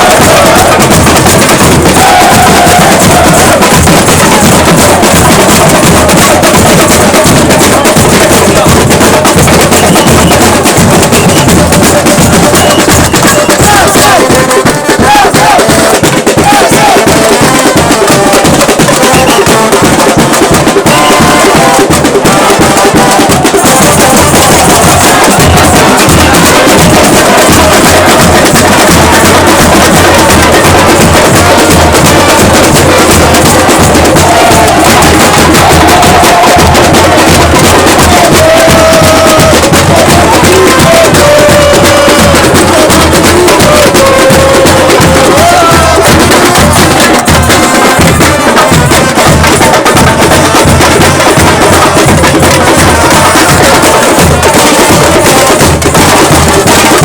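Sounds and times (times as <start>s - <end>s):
chanting voices or horn: 0.0s - 57.0s
drum band playing fast rhythm: 0.0s - 57.0s.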